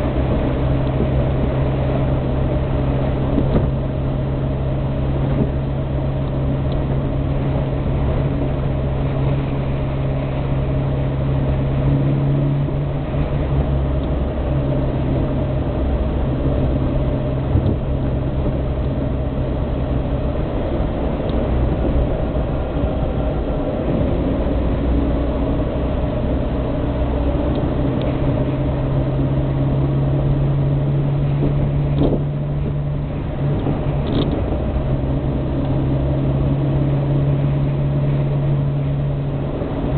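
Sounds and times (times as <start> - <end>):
car engine heard from inside cabin: 0.0 - 39.9.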